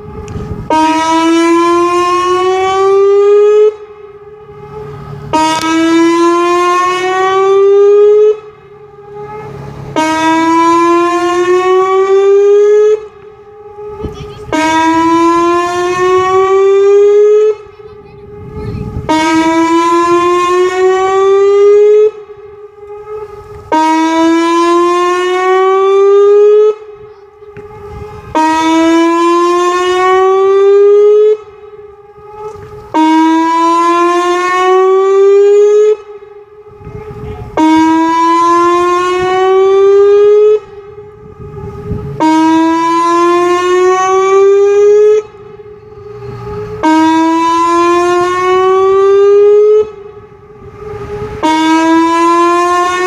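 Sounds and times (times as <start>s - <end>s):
electronic warning siren blasts: 0.0s - 53.0s.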